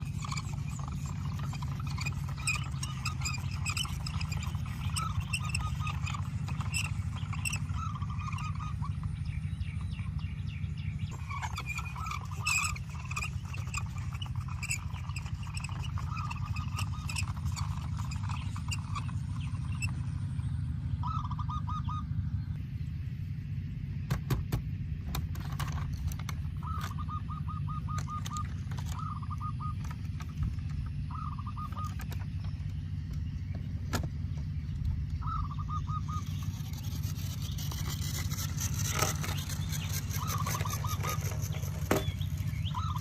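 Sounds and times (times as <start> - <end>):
bird trill: 0.0 - 23.0, 25.4 - 43.0
birds chirping: 0.0 - 43.0
steady low hum: 0.0 - 43.0.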